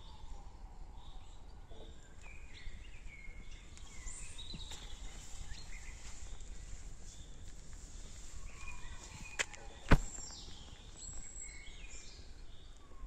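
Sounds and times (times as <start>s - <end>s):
forest birds chirping: 0.0s - 13.0s.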